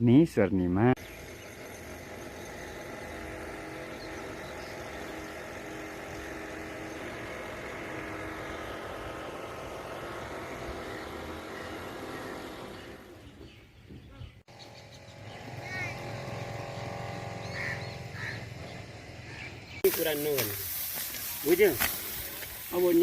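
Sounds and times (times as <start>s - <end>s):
harvester engine running: 1.0s - 13.6s, 14.5s - 23.0s.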